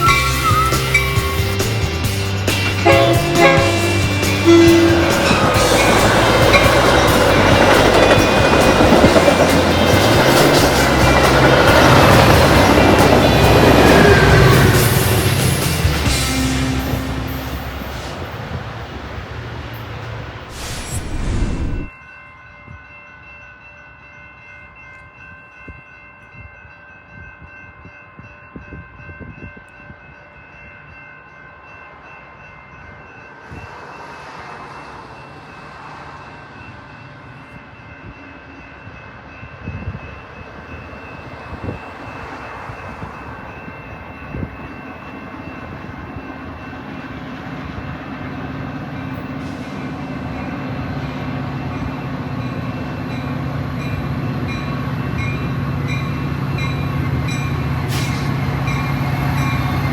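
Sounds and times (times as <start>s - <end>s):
train rumble and diesel engine: 0.0s - 22.0s, 23.2s - 59.9s.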